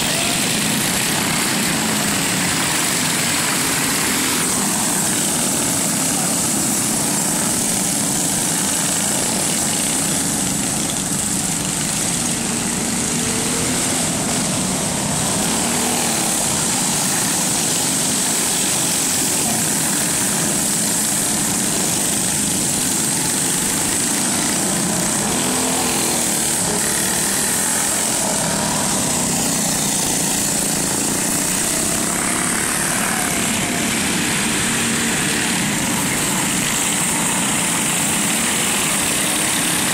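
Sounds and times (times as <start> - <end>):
go-kart engines racing: 0.0 - 39.9.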